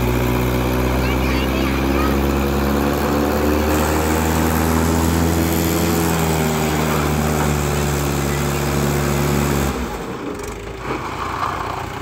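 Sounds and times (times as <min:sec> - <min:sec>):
tractor diesel engine labouring: 0:00.0 - 0:12.0.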